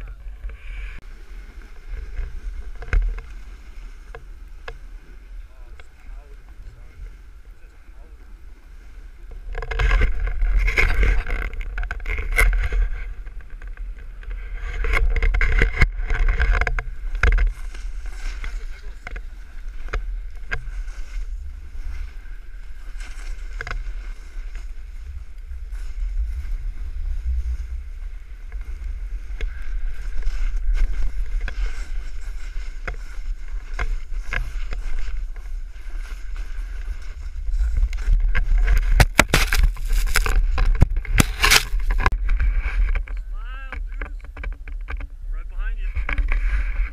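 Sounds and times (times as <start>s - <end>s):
wind buffeting microphone: 0.0s - 46.9s
snowboard scraping over snow: 0.2s - 44.3s, 45.5s - 46.9s.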